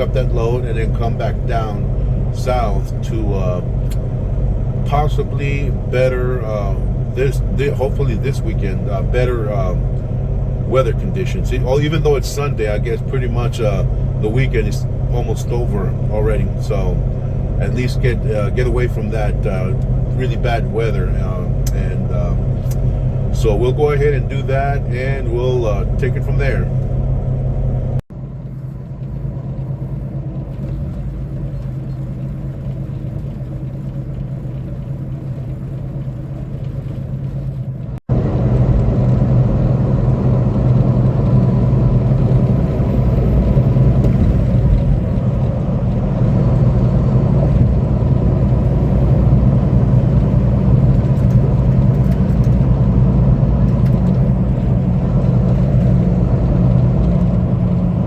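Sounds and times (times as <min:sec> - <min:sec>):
diesel truck engine running: 0:00.0 - 0:58.0
road noise inside cab: 0:00.0 - 0:58.0.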